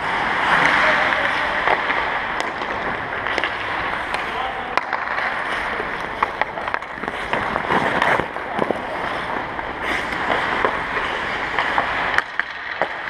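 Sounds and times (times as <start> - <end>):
skate blades scraping ice: 0.0 - 13.0
sticks clacking on pucks: 0.4 - 13.0.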